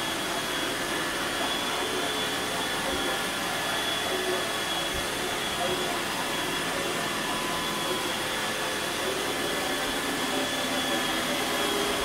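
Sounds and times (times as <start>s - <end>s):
motor or fan whirring: 0.0s - 12.0s.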